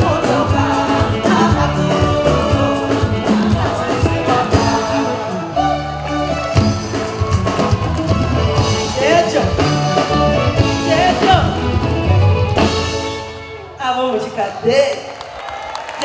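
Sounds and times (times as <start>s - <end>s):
live band playing: 0.0s - 14.4s.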